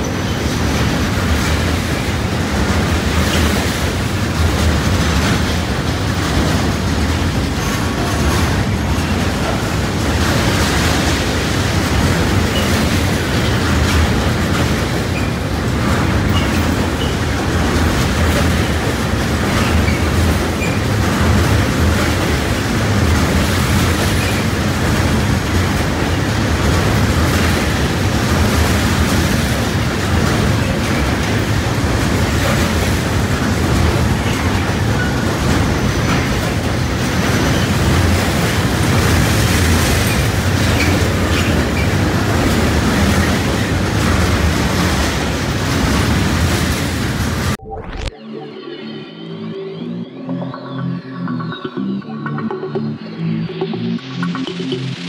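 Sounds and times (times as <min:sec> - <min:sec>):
freight train wheels rumbling: 0:00.0 - 0:47.6.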